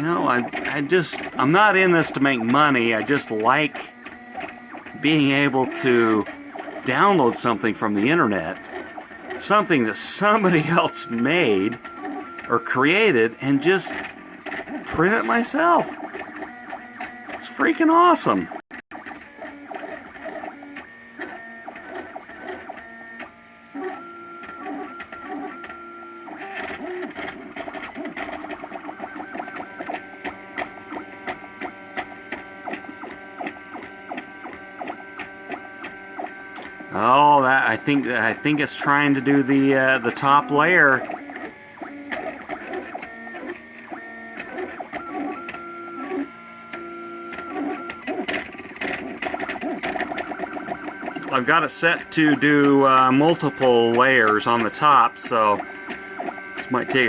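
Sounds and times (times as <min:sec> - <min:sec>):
stepper motors whining: 0:00.0 - 0:57.0.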